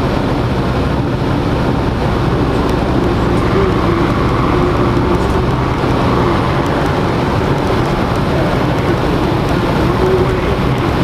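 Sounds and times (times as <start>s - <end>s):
aircraft engines droning: 0.0s - 11.0s
rushing wind: 0.0s - 11.0s.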